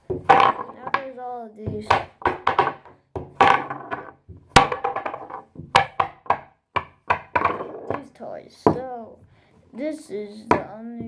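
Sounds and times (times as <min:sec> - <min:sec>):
fidget toys knocking and clacking: 0:00.0 - 0:09.3.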